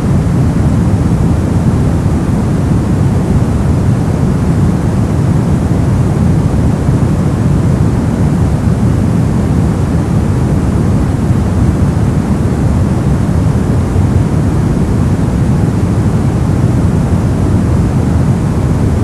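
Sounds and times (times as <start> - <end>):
brown noise: 0.0 - 19.0.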